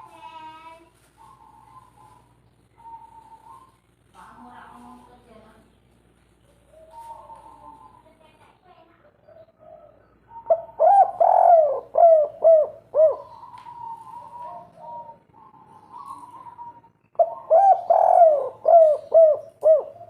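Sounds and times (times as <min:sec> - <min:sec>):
dove cooing: 0:00.0 - 0:05.3, 0:06.5 - 0:20.0.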